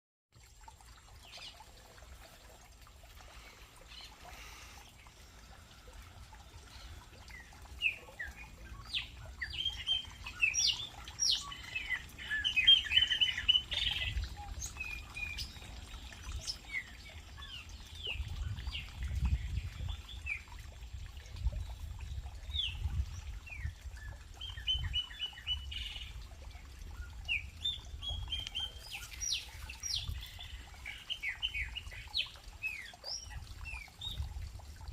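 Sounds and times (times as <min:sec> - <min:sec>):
small birds chirping: 0:03.1 - 0:20.6, 0:21.2 - 0:34.3.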